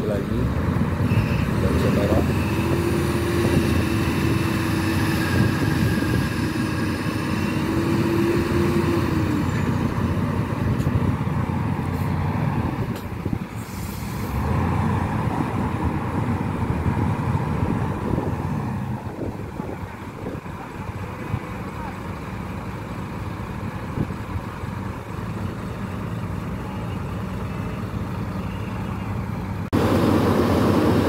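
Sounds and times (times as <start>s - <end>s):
heavy diesel engines under load: 0.0s - 31.0s.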